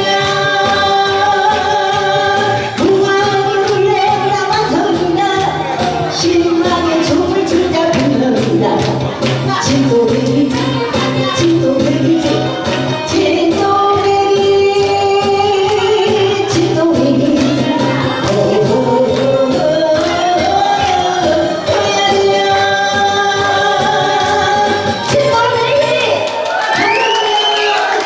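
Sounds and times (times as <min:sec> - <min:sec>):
backing track with steady beat: 0:00.0 - 0:26.1
person singing: 0:00.0 - 0:26.2.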